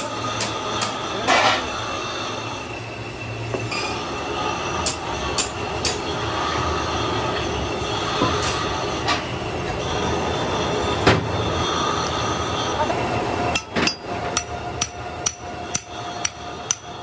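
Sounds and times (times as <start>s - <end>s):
workshop machinery drone: 0.0s - 17.0s.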